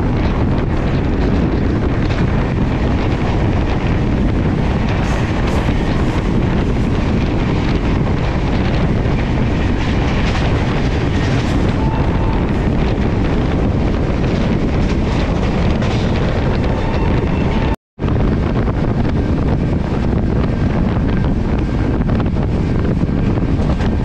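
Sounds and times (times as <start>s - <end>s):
passenger train rushing: 0.0s - 24.0s
wind buffeting microphone: 0.0s - 24.0s.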